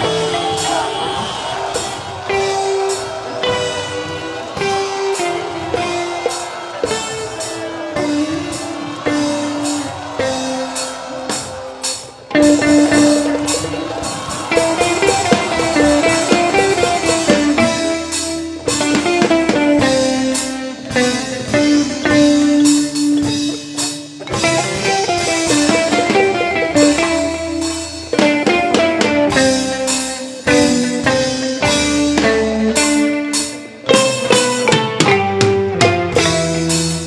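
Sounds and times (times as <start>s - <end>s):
music with drums and guitar: 0.0s - 37.0s.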